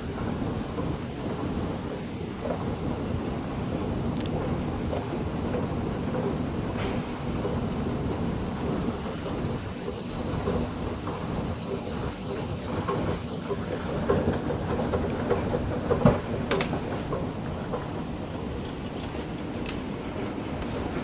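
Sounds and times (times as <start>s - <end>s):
escalator rumbling: 0.0s - 21.0s
light rattling clatter: 0.0s - 21.0s.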